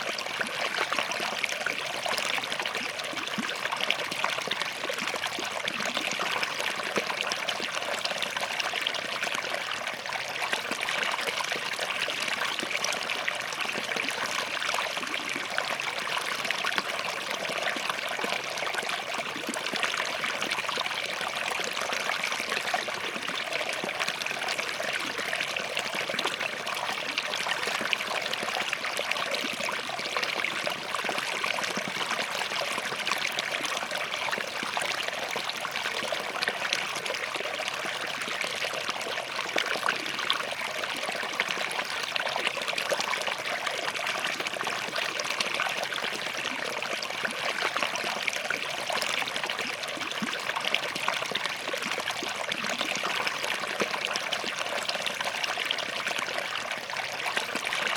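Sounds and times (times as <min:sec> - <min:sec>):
stream trickling over rocks: 0:00.0 - 0:57.9.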